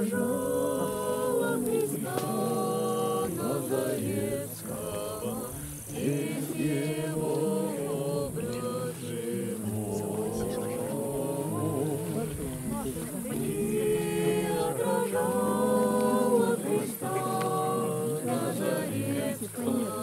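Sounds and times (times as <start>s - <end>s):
acoustic guitar: 0.0s - 20.0s
group singing a hymn: 0.0s - 20.0s.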